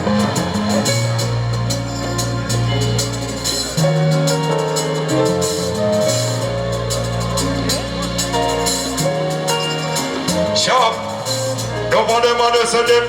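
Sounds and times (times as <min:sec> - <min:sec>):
sustained chords: 0:00.0 - 0:12.6
held bass notes: 0:00.0 - 0:13.0.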